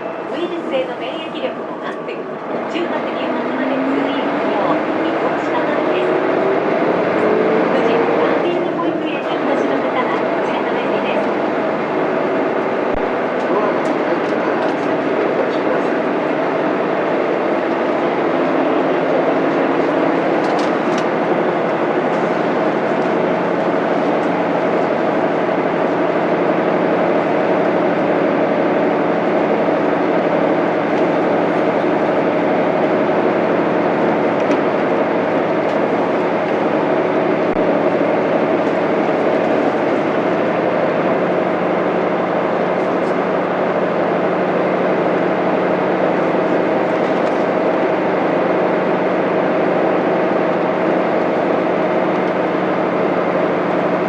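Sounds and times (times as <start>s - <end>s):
diesel bus engine drone: 0.0s - 54.0s
road noise: 0.0s - 54.0s.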